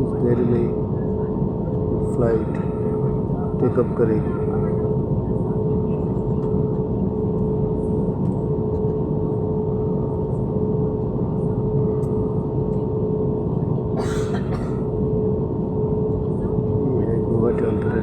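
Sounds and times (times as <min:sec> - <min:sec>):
airliner cabin engine hum: 0:00.0 - 0:18.0.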